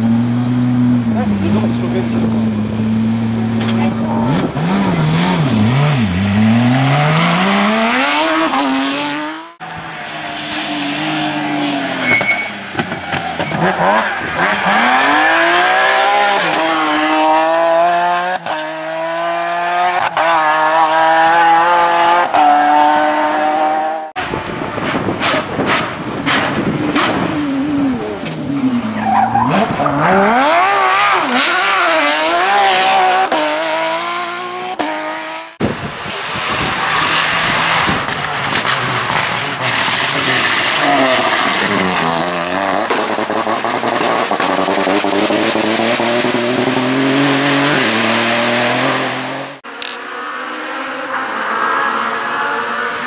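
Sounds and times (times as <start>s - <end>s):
rally car engines revving: 0.0s - 53.0s.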